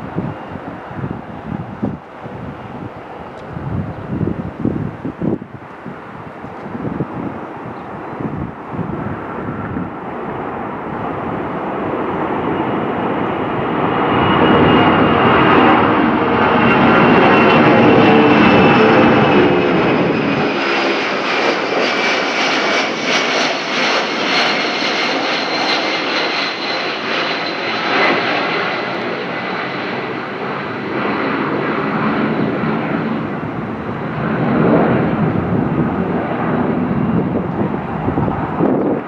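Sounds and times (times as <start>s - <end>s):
jet engines roaring with whine: 0.0s - 39.0s.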